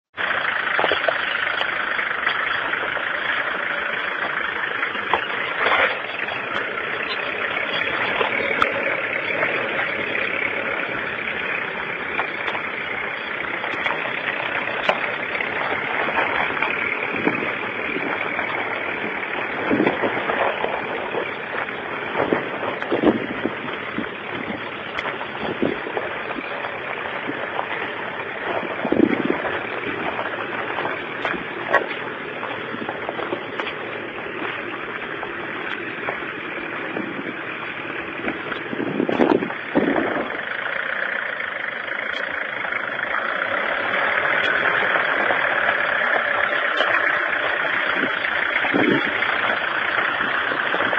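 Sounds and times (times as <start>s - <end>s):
suv engine running at low revs: 0.1s - 50.9s.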